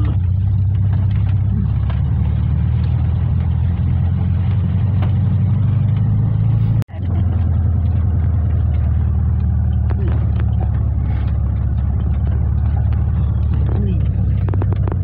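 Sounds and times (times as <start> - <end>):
tyre and road noise: 0.0 - 15.0
van engine drone: 0.0 - 15.0.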